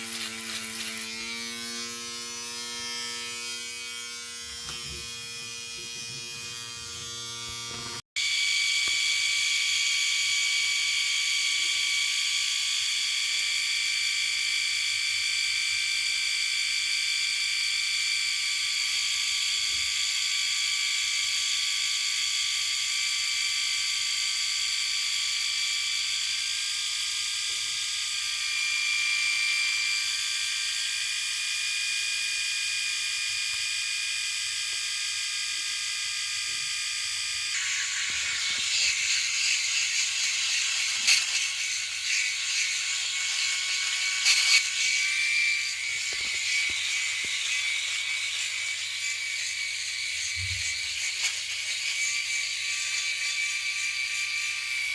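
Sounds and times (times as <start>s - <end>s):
electric shaver buzzing: 0.0s - 54.9s.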